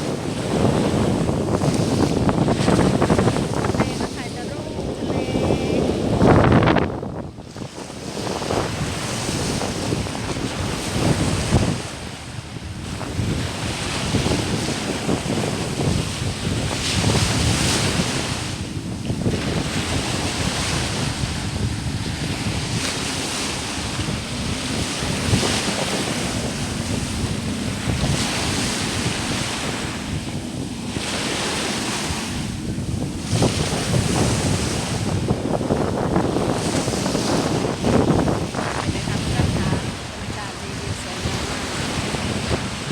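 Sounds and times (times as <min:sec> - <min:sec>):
sea waves breaking on sand: 0:00.0 - 0:42.9
wind buffeting microphone: 0:00.0 - 0:42.9.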